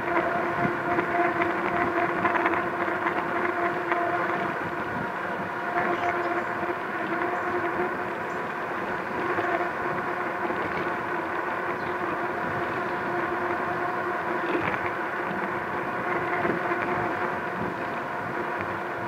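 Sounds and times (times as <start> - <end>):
electric bike motor whine: 0.0 - 19.0.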